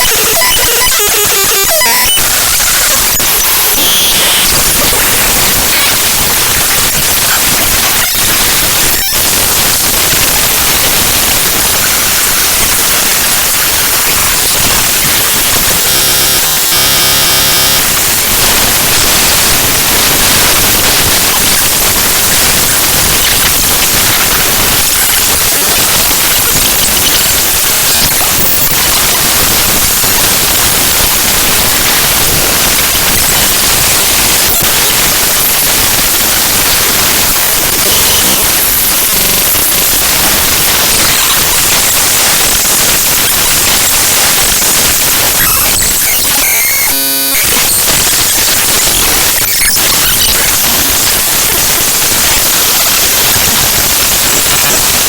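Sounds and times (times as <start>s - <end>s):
buzzing tone: 0.0s - 35.6s, 36.3s - 54.8s
harsh static-like noise: 0.0s - 55.0s.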